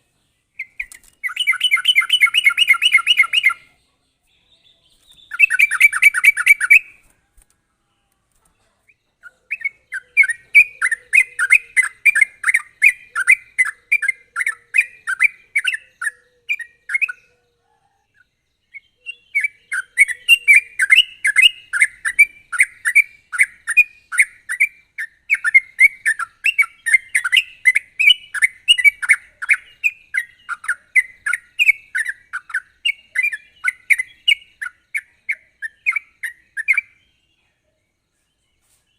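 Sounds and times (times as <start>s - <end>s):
bulbul singing rolling song: 0.0s - 38.9s.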